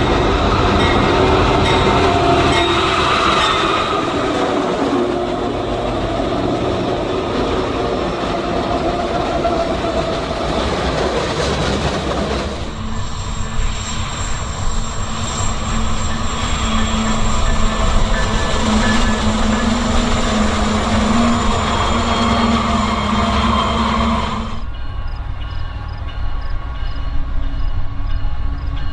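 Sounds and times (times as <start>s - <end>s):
freight train rumbling past: 0.0s - 28.9s
wheel and rail noise: 0.0s - 28.9s.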